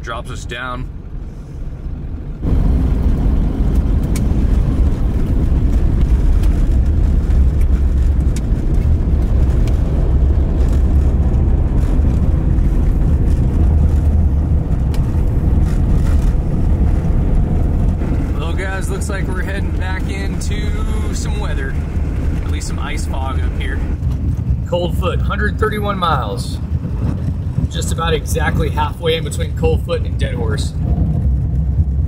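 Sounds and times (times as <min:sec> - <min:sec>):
truck engine and tyres rumbling: 0:00.0 - 0:32.0.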